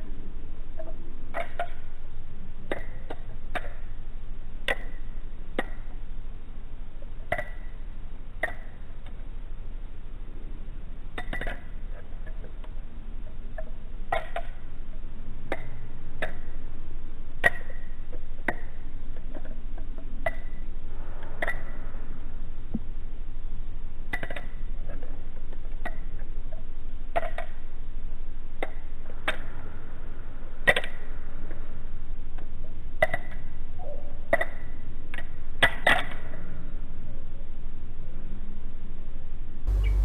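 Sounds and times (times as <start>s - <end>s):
low background hiss: 0.0s - 40.0s.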